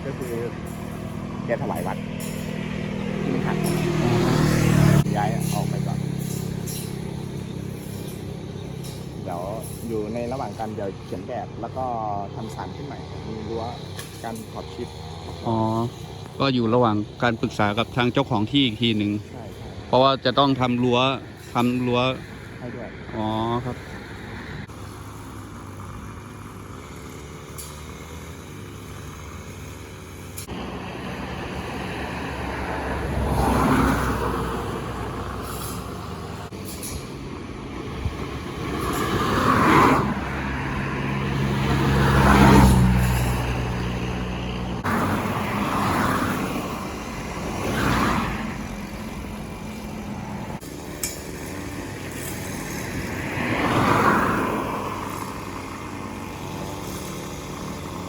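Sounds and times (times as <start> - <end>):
heavy vehicle engine hum: 0.0 - 58.0
vehicles passing: 0.0 - 58.0.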